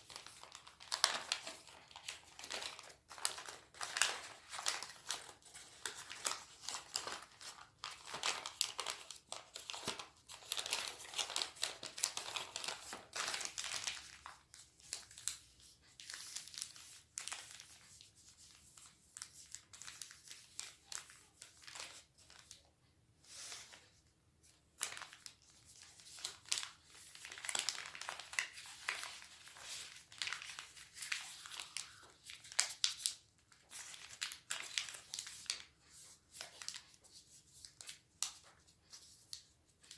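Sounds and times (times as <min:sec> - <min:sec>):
paper crinkling while folded: 0:00.0 - 0:39.9.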